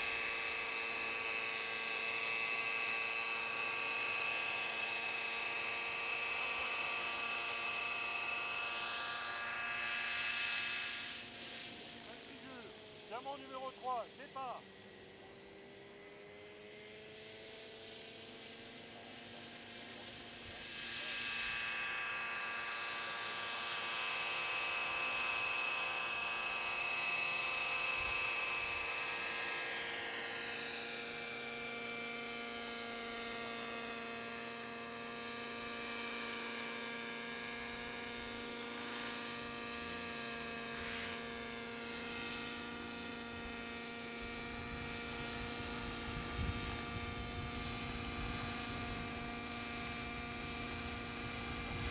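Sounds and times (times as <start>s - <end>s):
model helicopter rotor hum: 0.0s - 51.9s.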